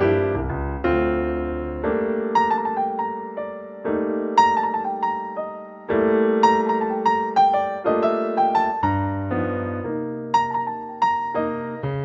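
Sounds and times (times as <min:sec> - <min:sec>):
piano chords with melody: 0:00.0 - 0:12.0.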